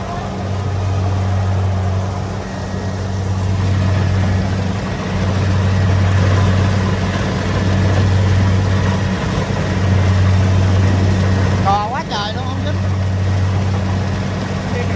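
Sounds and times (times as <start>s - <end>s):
diesel engine humming: 0.0s - 14.9s.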